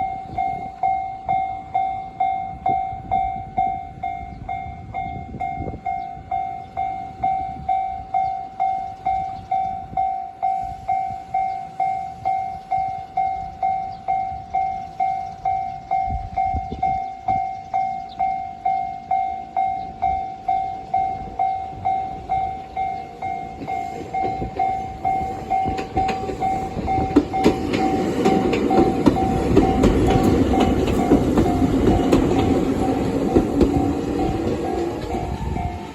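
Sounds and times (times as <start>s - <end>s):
level crossing warning bell: 0.0s - 35.9s
train rumbling on rails: 0.0s - 35.9s.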